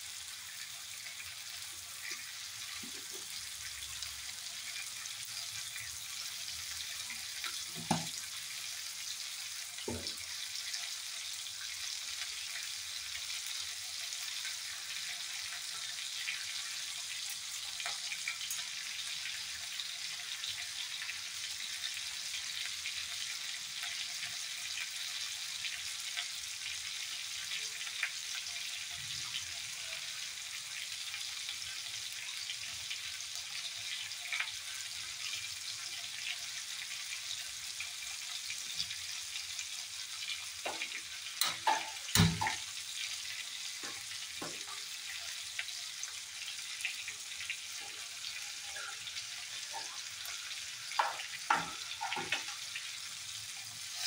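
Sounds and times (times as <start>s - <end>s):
hot oil sizzling in a pan: 0.0s - 54.0s.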